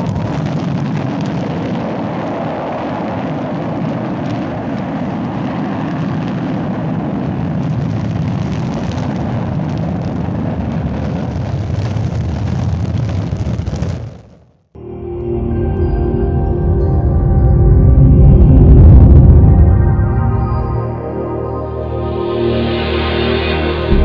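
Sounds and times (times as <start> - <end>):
rocket launch rumble: 0.0 - 14.7, 18.0 - 21.1, 21.7 - 24.0.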